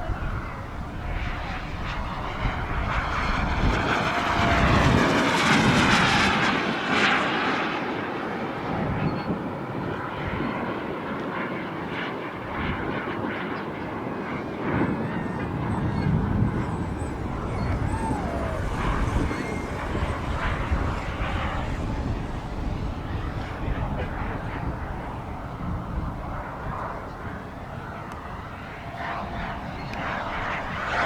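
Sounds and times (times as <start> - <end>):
wind rumble on microphone: 0.0 - 7.5, 8.3 - 31.0
model jet turbine whining: 0.0 - 10.5, 13.8 - 31.0.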